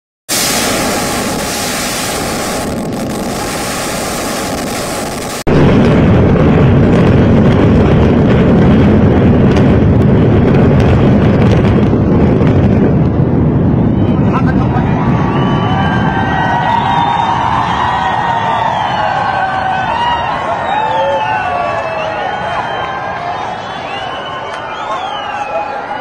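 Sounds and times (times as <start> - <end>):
deep rumble of building collapse: 0.5 - 26.0.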